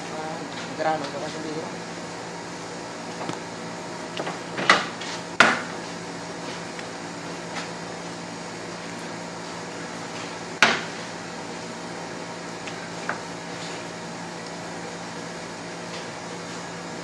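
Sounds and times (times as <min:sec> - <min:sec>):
appliance hum: 0:00.0 - 0:17.0.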